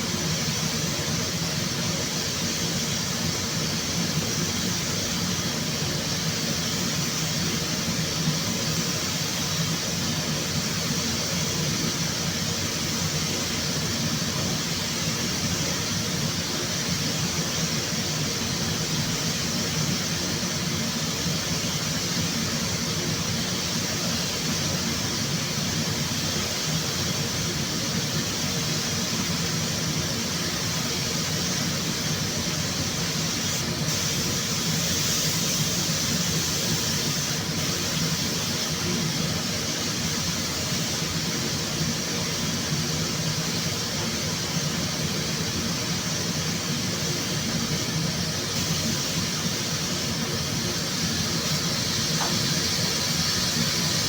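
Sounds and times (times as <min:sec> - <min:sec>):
compressed air hissing: 0:00.0 - 0:54.0.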